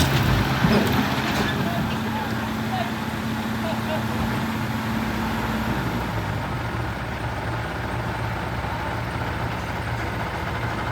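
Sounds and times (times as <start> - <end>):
heavy vehicle engine running: 0.0 - 10.9.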